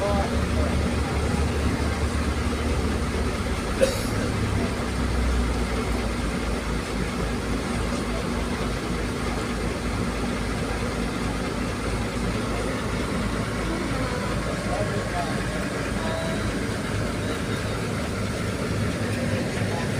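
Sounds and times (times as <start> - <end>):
ship engines droning: 0.0 - 19.9.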